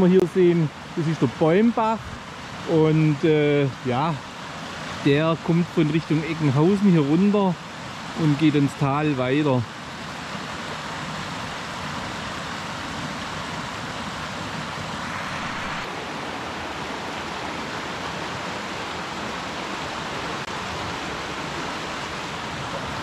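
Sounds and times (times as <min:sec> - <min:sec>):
brook running water: 0:00.0 - 0:23.0.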